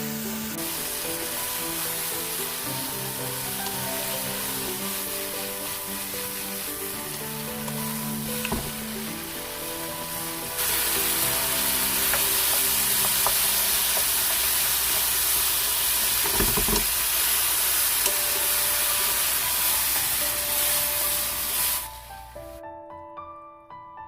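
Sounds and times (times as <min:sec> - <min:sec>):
food sizzling in a hot pan: 0:00.0 - 0:22.6.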